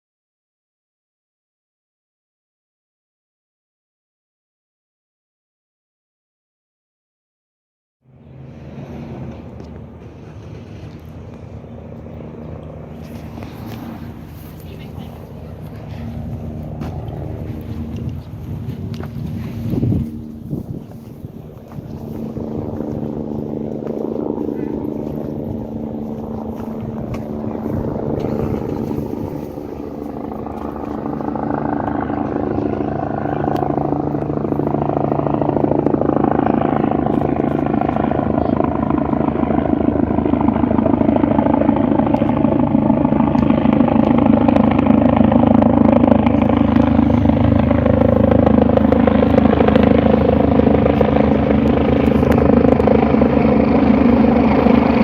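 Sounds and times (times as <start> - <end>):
helicopter turbine and rotor: 8.0 - 55.0.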